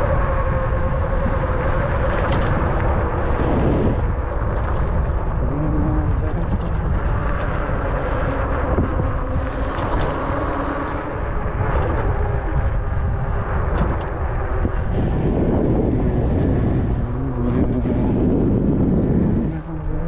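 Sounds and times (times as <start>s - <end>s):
faint humming tones: 0.0s - 20.0s
wind rushing over microphone: 0.0s - 20.0s.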